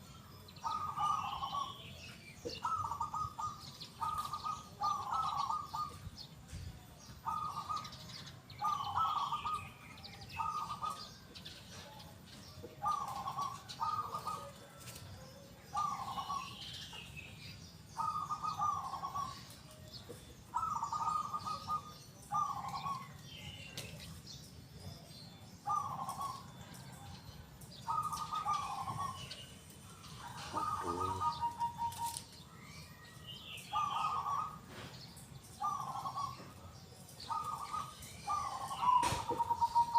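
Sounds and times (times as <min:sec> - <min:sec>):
small birds chirping: 0:00.0 - 0:39.9
dove cooing: 0:00.6 - 0:06.6, 0:07.2 - 0:17.0, 0:18.0 - 0:19.8, 0:20.4 - 0:24.1, 0:24.9 - 0:32.5, 0:33.6 - 0:39.9.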